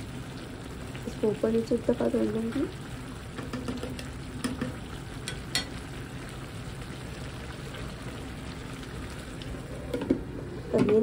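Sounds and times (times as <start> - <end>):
rice bubbling in a pan: 0.0 - 11.0.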